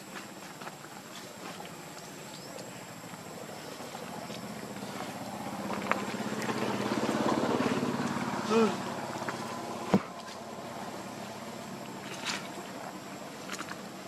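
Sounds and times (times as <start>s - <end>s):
engine running: 2.6s - 14.0s.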